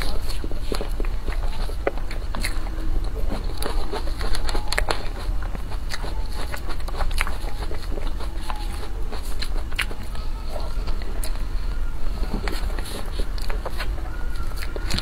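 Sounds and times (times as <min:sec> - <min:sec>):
person chewing cake: 0:00.0 - 0:15.0
steady low hum: 0:00.0 - 0:15.0.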